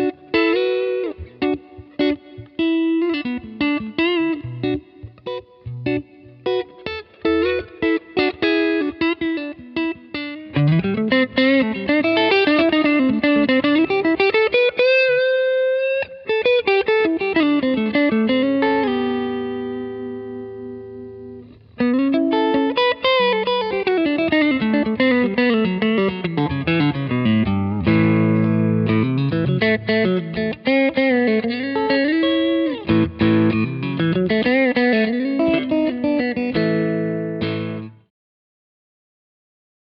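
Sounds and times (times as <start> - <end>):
guitar chord ringing: 0.0 - 37.9.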